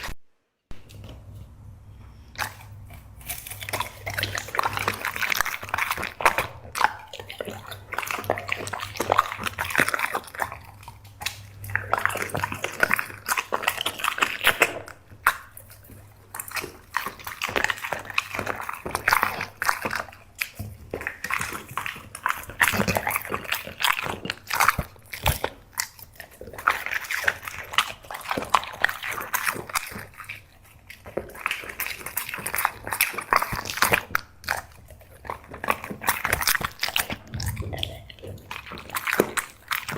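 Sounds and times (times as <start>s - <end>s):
dog crunching snacks: 2.3s - 39.9s.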